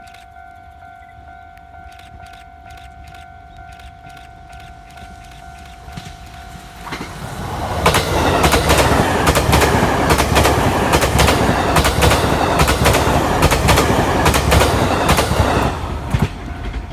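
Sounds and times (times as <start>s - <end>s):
train wheels clacking on rails: 0.0s - 16.9s.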